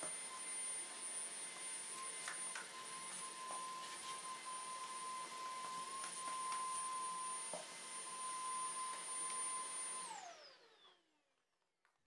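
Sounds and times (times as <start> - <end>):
vacuum cleaner running: 0.0 - 11.4
vacuum motor winding down: 0.2 - 11.2.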